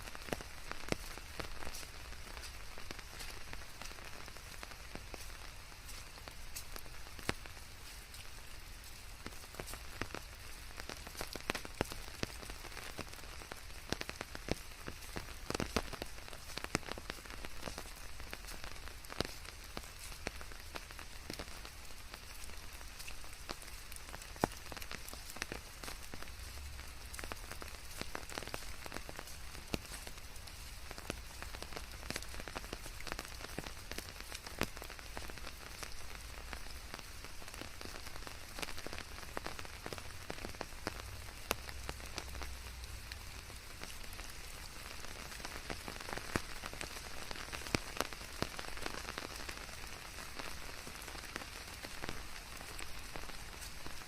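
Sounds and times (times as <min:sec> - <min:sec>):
rain drops striking: 0:00.0 - 0:54.0.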